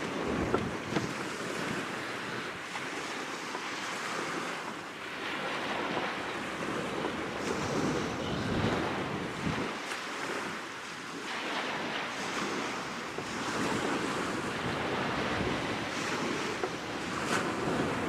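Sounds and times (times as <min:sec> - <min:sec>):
waves washing on shore: 0:00.0 - 0:18.0
wind blowing across microphone: 0:00.0 - 0:18.0.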